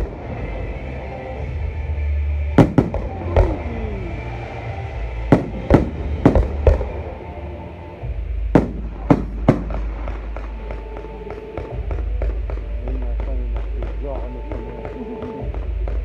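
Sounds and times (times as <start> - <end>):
fireworks bursting with bangs: 0.0 - 1.6, 2.4 - 16.0
low rumble: 0.0 - 14.7.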